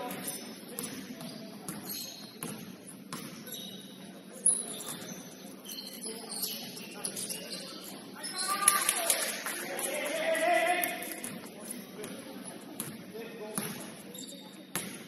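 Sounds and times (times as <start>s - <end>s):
sneaker squeaks on gym floor: 0.0s - 8.7s, 11.3s - 15.0s
faint murmur of players: 0.0s - 15.0s.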